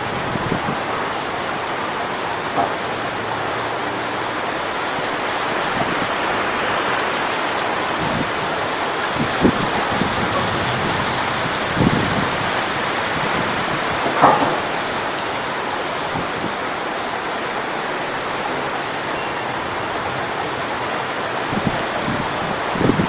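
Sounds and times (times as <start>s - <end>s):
wind gusts thumping microphone: 0.0s - 19.1s, 19.7s - 23.0s
wind rustling palm fronds: 0.0s - 23.0s.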